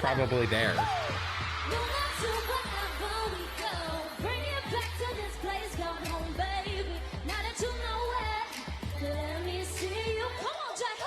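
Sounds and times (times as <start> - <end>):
pop music with vocals: 0.0 - 11.0.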